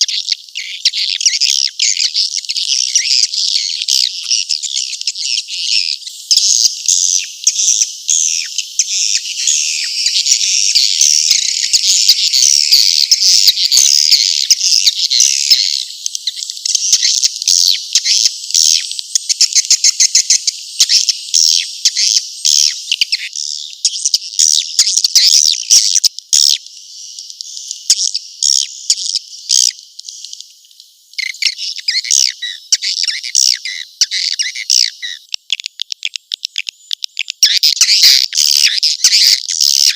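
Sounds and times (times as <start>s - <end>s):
swiftlet chirping chorus: 0.0s - 30.5s, 31.1s - 39.9s.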